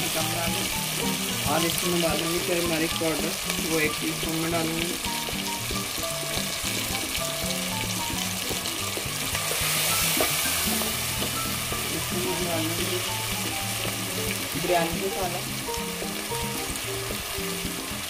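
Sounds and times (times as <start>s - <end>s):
masala sizzling in hot oil: 0.0s - 18.0s.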